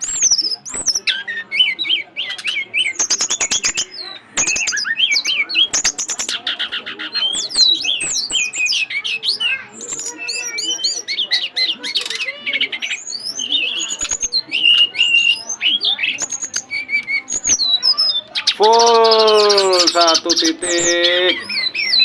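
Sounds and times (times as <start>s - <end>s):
songbird singing trills: 0.0s - 22.0s.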